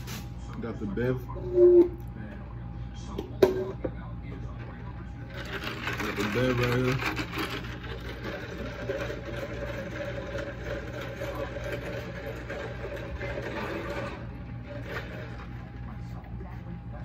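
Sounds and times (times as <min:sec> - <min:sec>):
machine hum with mid-pitched tone: 0:00.0 - 0:17.0.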